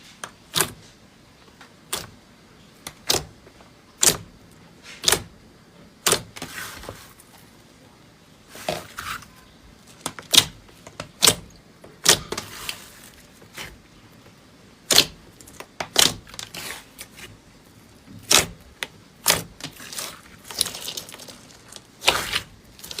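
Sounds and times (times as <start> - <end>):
soft slime crackling: 0.0 - 23.0.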